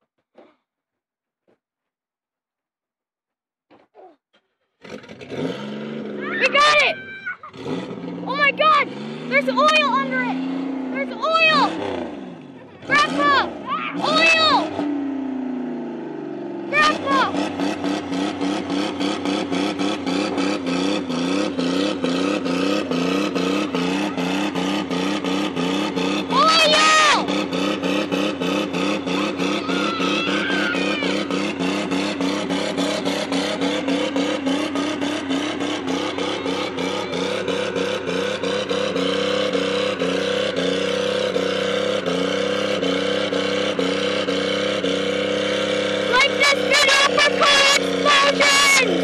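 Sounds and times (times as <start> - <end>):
car engine running rough: 4.4 - 49.0.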